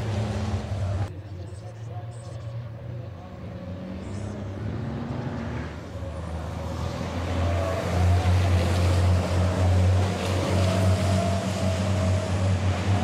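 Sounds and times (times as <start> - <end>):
truck diesel engines droning: 0.0 - 13.0.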